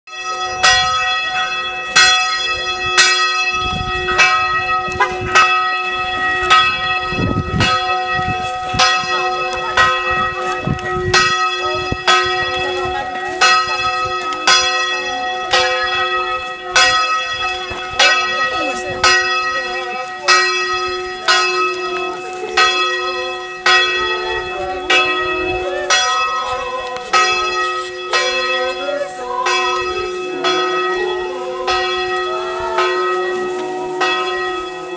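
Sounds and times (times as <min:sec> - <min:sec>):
church bell ringing: 0:00.1 - 0:34.9.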